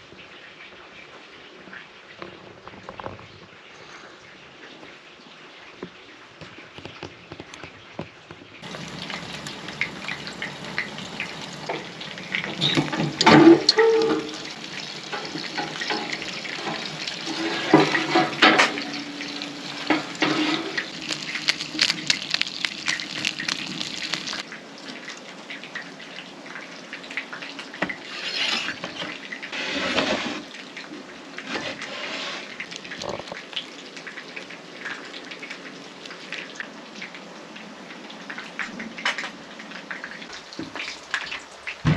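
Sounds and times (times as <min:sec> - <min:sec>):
water running and splashing: 0:00.0 - 0:41.9.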